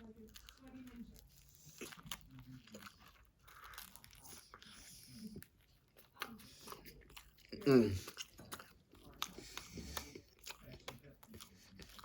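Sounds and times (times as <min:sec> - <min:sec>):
person biting and chewing food: 0:00.3 - 0:04.9, 0:05.9 - 0:12.0.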